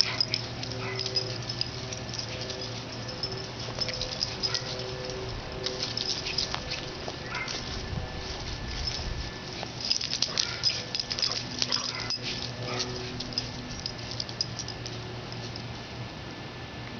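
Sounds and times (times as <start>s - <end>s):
dog scuffling in grass: 0.0s - 15.9s.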